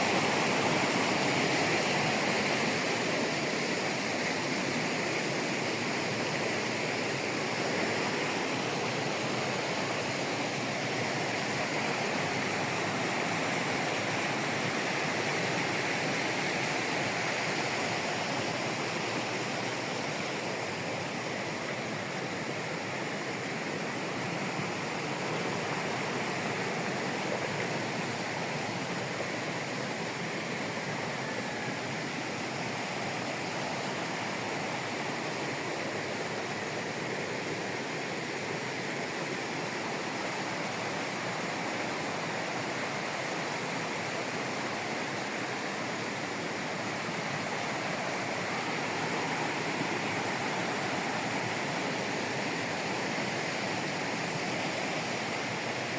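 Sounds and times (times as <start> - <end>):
mountain torrent roaring: 0.0 - 55.9.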